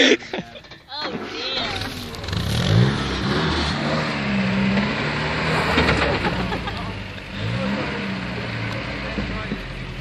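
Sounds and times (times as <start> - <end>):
off-road vehicle engine under load: 0.0 - 10.0.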